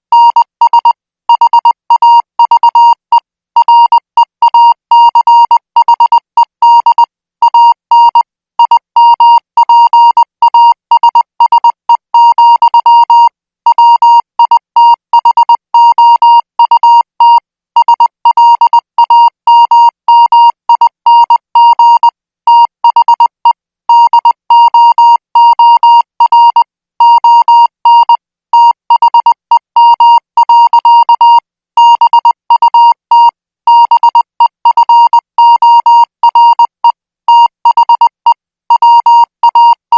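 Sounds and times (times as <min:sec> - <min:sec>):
morse code beeps: 0:00.1 - 0:39.9.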